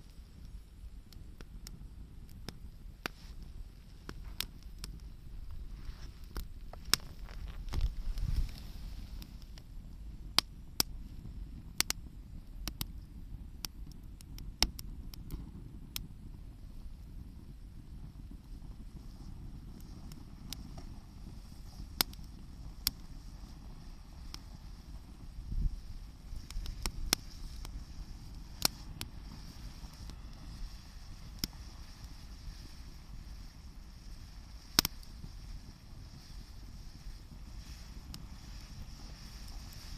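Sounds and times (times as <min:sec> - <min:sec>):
campfire wood crackling and popping: 0:00.0 - 0:39.9
low steady rumble: 0:00.0 - 0:39.9.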